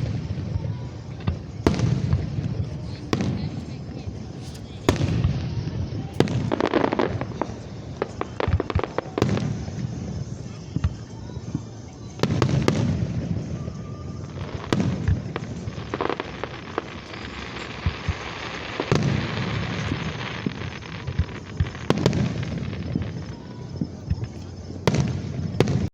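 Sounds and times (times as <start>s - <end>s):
continuous crackling: 0.0s - 25.9s
firework bangs: 0.0s - 25.9s.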